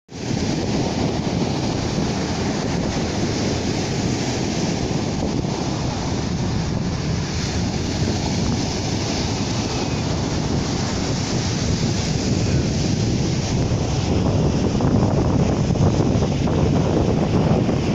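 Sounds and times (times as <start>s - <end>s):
waves washing onto shore: 0.1s - 17.9s
wind buffeting microphone: 0.1s - 17.9s.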